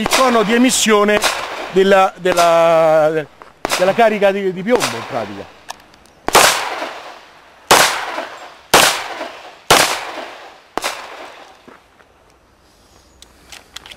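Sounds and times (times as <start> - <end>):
pistol shots echoing: 0.0 - 11.5.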